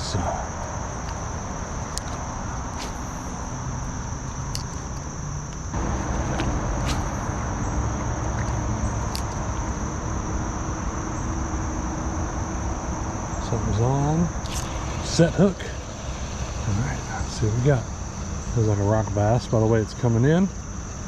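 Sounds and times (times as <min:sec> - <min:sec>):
crickets trilling: 0:00.0 - 0:21.0
low outdoor rumble: 0:00.0 - 0:21.0.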